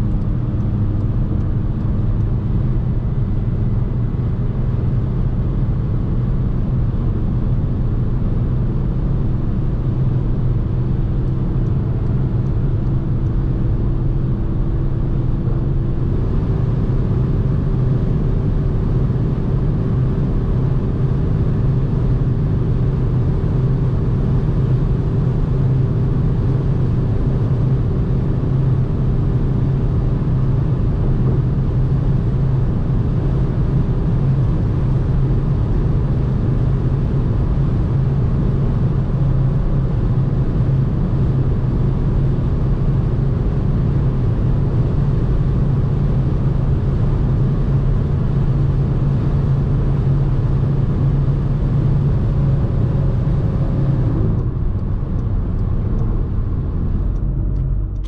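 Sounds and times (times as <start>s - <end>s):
diesel engine drone: 0.0s - 58.0s
road and wind noise: 0.0s - 58.0s.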